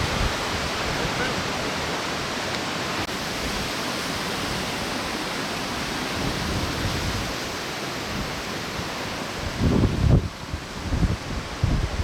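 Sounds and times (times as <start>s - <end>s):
river rushing: 0.0s - 12.0s
wind: 0.0s - 12.0s.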